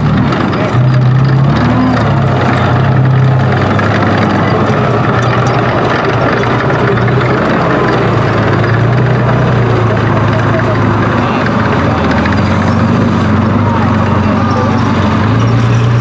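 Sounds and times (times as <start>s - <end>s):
diesel engine droning: 0.0s - 16.0s
vehicle tracks rattling: 0.0s - 16.0s.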